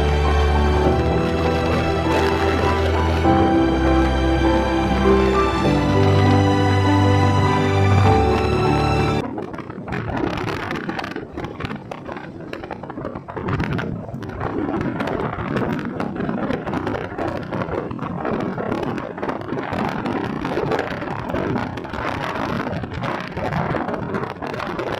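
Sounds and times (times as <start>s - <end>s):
road and rain noise: 0.0s - 24.9s
wind buffeting microphone: 0.0s - 24.9s.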